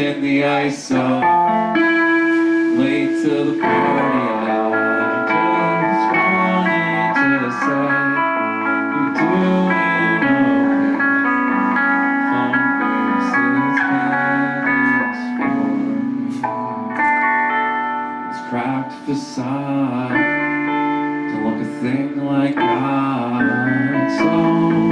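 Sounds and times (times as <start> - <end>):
rock band playing: 0.0 - 24.9.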